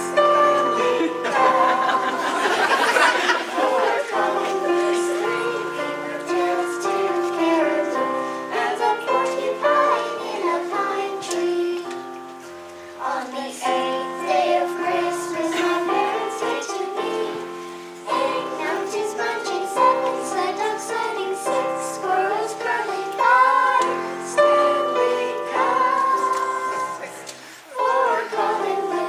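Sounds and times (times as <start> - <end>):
children singing: 0.0 - 12.2, 13.0 - 29.0
instrumental backing music: 0.0 - 29.0.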